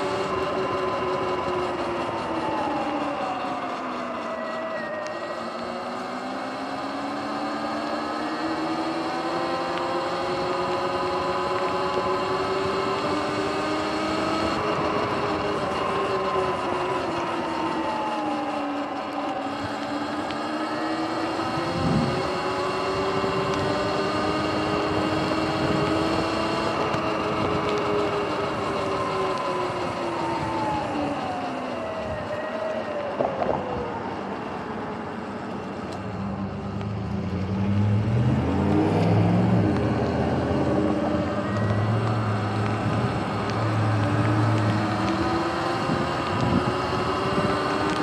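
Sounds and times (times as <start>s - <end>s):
electric motorbike motor whining: 0.0s - 48.0s.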